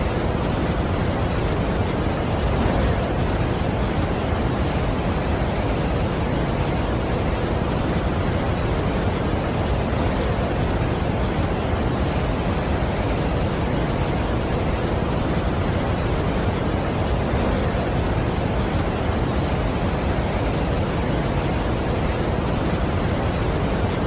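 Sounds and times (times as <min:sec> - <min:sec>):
large waterfall rushing: 0:00.0 - 0:24.0.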